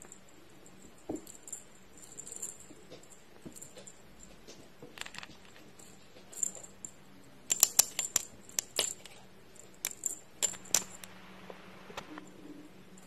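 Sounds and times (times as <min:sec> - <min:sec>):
metal jingle toy clinking: 0:00.0 - 0:04.4, 0:05.0 - 0:11.1.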